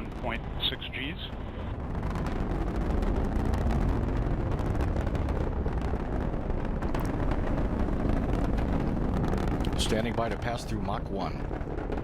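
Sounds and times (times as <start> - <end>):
rocket engine rumbling and crackling: 0.0 - 12.0.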